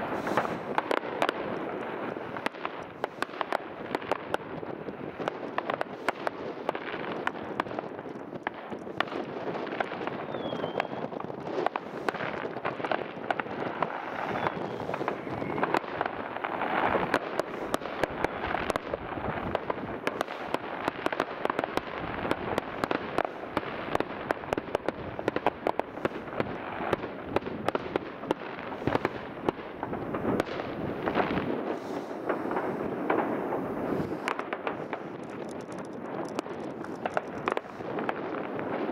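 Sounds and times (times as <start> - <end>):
distant fireworks bangs and pops: 0.0 - 38.9.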